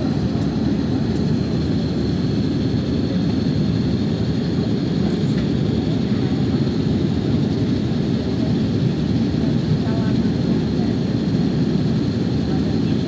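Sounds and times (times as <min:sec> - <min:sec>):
airplane cabin engine and airflow noise: 0:00.0 - 0:13.0.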